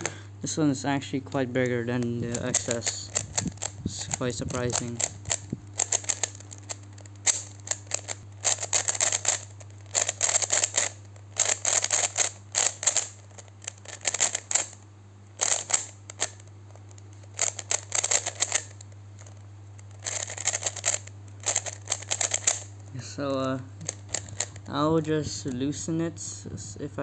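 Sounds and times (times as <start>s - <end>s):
puzzle cube clicking turns: 1.6s - 14.8s, 15.4s - 24.7s.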